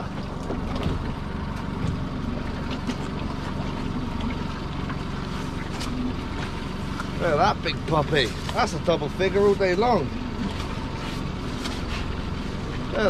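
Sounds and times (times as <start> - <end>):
outboard motor idling: 0.0 - 13.0
wind and water noise: 0.0 - 13.0.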